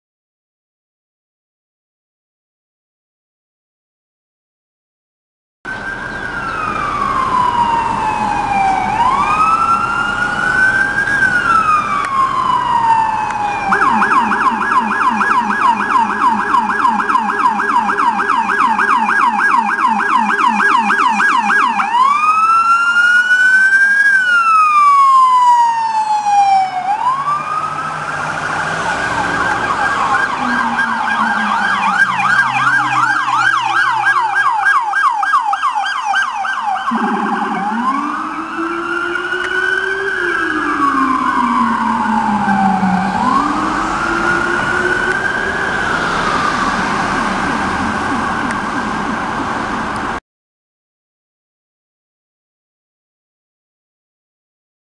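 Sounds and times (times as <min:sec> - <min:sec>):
low-pitched siren yelp: 0:05.7 - 0:50.2
police sirens wailing and yelping: 0:05.7 - 0:50.2.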